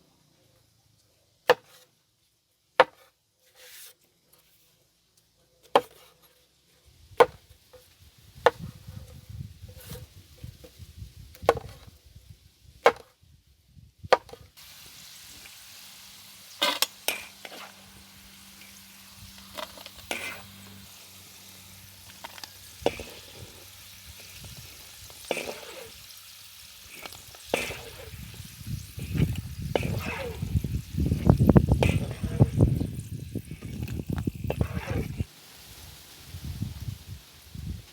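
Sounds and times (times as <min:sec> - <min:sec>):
faint steady hiss: 0:00.0 - 0:37.9.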